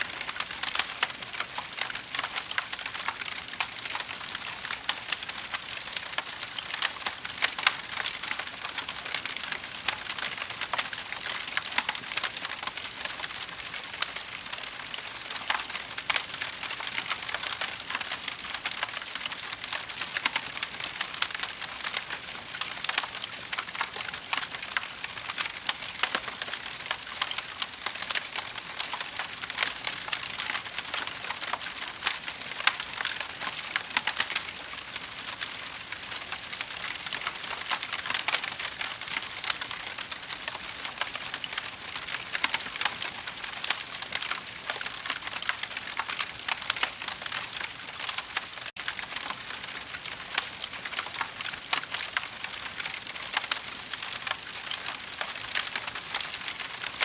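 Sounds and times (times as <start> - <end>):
fire crackling: 0.1 - 57.0.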